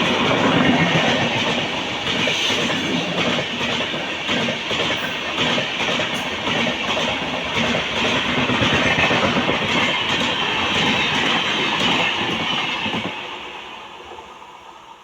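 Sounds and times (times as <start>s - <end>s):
train wheels clattering on rails: 0.0s - 13.3s.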